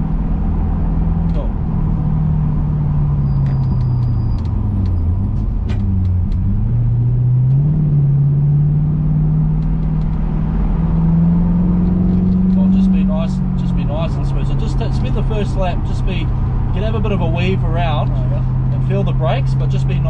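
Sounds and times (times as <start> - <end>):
car engine from inside cabin: 0.0 - 20.0.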